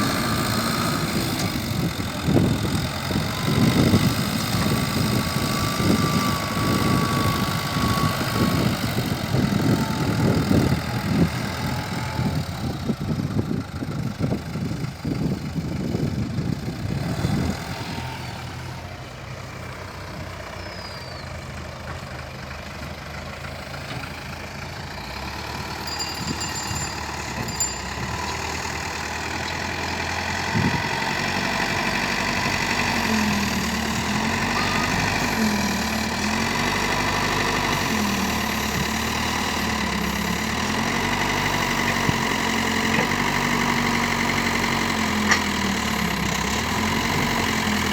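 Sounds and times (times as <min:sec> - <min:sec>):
vehicle engine running with rattle: 0:00.0 - 0:47.9.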